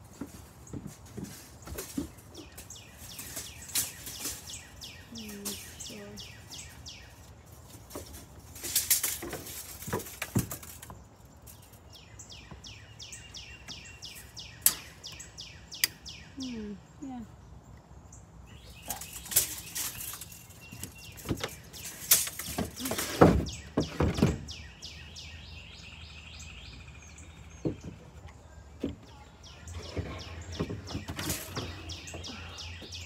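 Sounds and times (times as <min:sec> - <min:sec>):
sharp knocks and rustles: 0:00.0 - 0:15.2, 0:18.6 - 0:25.3, 0:27.3 - 0:33.0
songbird singing down-slurred notes: 0:02.4 - 0:07.4, 0:11.5 - 0:33.0.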